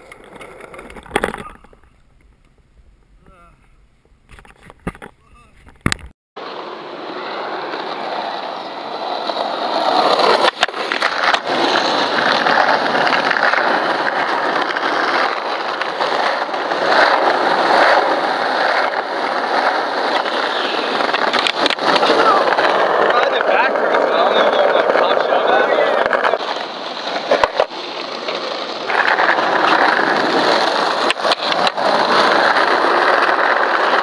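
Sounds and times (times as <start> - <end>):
skateboard clack: 0.0 - 2.6, 4.3 - 34.0
skateboard wheels rolling on asphalt: 0.0 - 3.2, 3.8 - 34.0.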